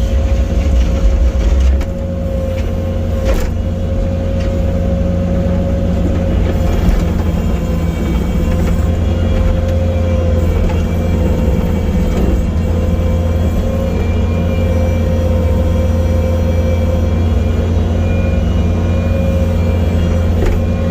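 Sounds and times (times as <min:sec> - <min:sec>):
diesel engine running under load: 0:00.0 - 0:20.9.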